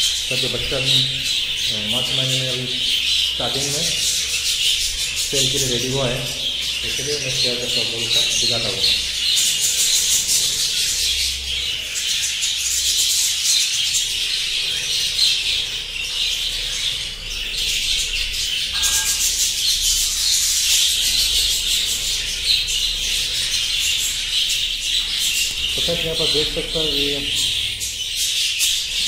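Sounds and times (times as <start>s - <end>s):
budgerigars chattering: 0.0s - 29.0s.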